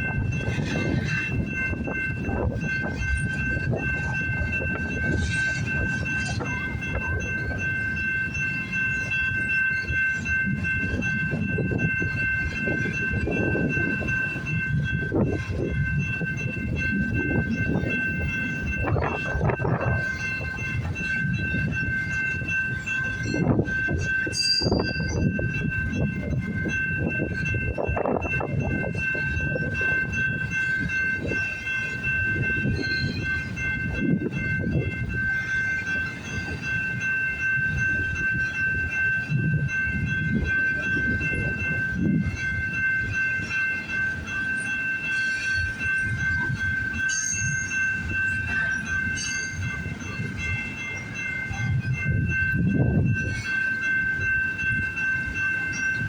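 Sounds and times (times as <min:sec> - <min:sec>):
freight train cars rolling past: 0:00.0 - 0:56.0
train wheel clatter: 0:00.0 - 0:56.0.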